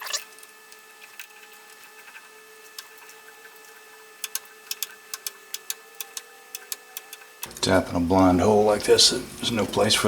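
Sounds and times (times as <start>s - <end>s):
steady hum: 0.4s - 10.0s.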